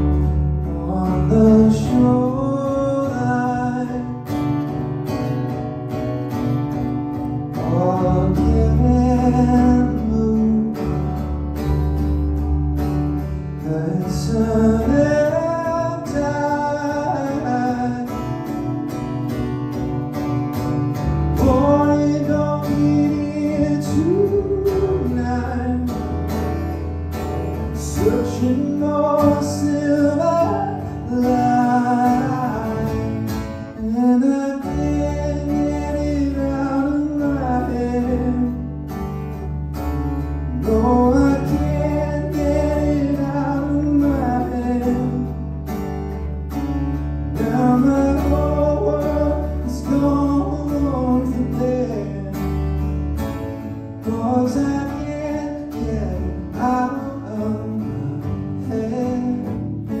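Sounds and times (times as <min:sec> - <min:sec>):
man singing: 0:00.0 - 0:04.7, 0:07.5 - 0:11.4, 0:13.5 - 0:19.1, 0:21.2 - 0:26.8, 0:27.5 - 0:38.9, 0:40.4 - 0:45.8, 0:47.3 - 0:52.9, 0:53.9 - 1:00.0
acoustic guitar: 0:00.0 - 1:00.0.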